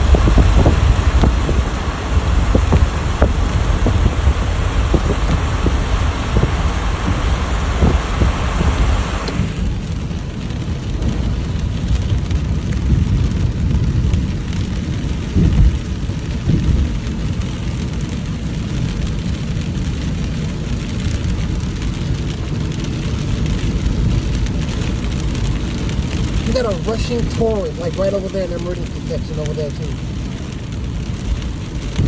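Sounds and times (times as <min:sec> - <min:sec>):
deep rumble: 0:00.0 - 0:32.0
heavy rain downpour: 0:00.0 - 0:32.0
rushing runoff water: 0:00.0 - 0:32.0.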